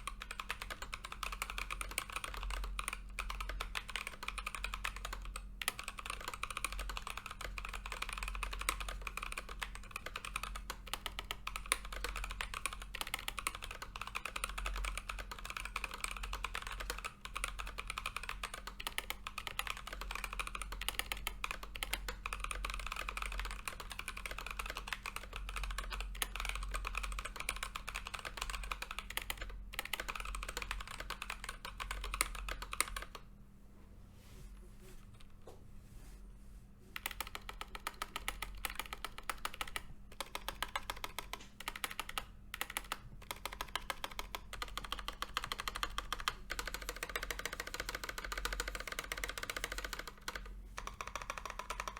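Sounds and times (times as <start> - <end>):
mechanical keyboard typing: 0.0 - 33.3, 37.0 - 51.9.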